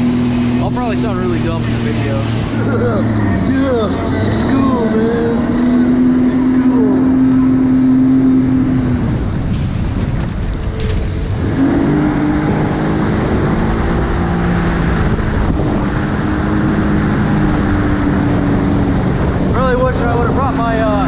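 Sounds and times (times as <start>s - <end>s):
jet ski engine running: 0.0s - 21.0s
wind and water rushing: 0.0s - 21.0s.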